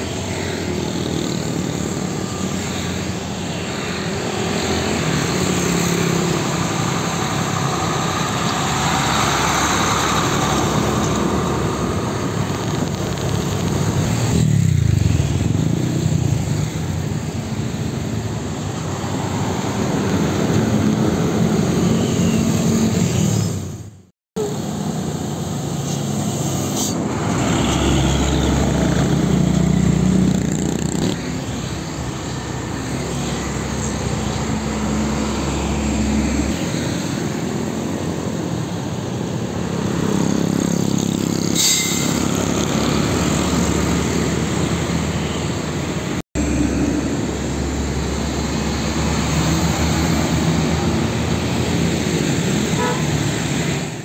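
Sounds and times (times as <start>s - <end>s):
trucks and motorcycles driving past: 0.0s - 54.0s.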